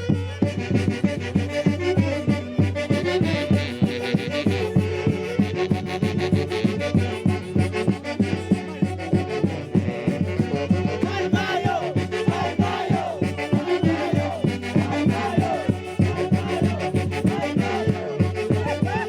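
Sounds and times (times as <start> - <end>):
band playing folk music: 0.0 - 19.0.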